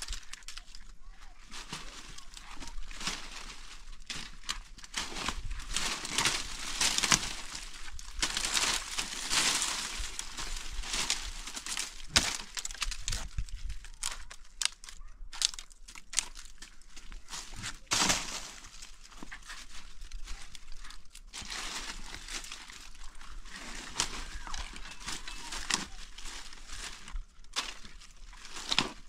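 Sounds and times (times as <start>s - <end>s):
rustling and crackling: 0.0s - 29.0s.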